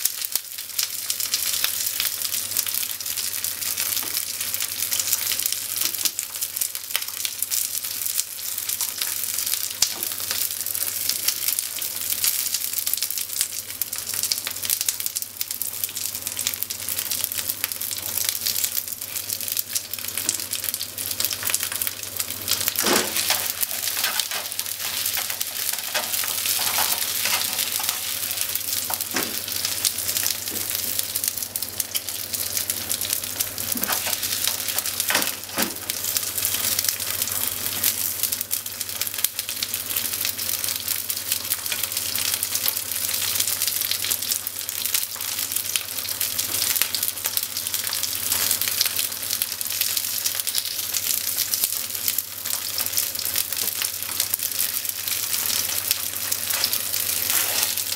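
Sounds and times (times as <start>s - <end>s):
tofu sizzling in hot oil: 0.0s - 57.9s.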